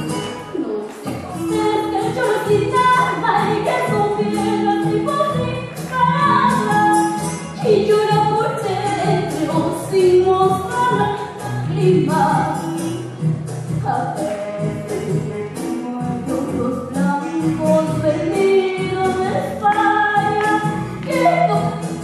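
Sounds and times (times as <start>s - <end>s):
instrumental accompaniment with beat: 0.0s - 22.0s
girl singing into microphone: 0.4s - 13.0s, 13.7s - 22.0s.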